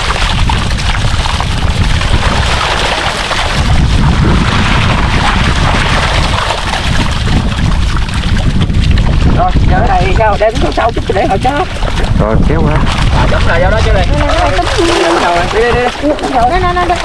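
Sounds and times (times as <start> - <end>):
pond water splashing: 0.0 - 17.0
wind buffeting microphone: 0.0 - 17.0.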